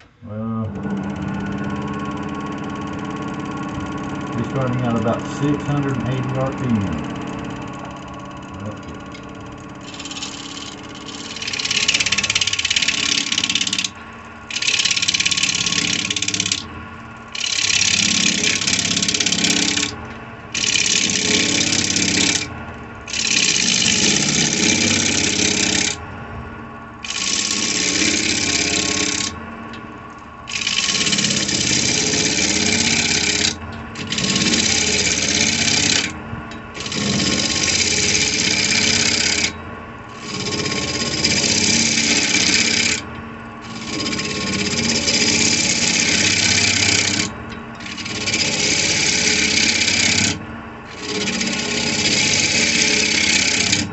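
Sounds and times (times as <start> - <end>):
wood lathe running: 0.0 - 26.1, 26.9 - 53.9
gouge cutting wood on lathe: 0.8 - 16.7, 17.3 - 26.0, 27.0 - 29.4, 30.4 - 36.2, 36.8 - 53.9.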